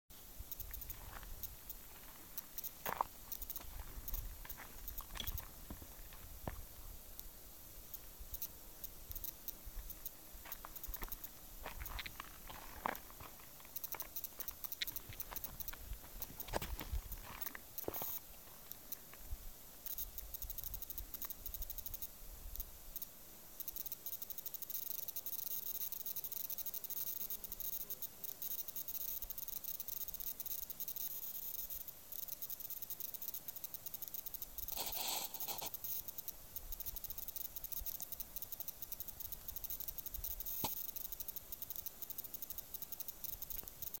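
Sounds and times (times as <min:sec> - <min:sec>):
faint steady hiss: 0:00.1 - 0:44.0.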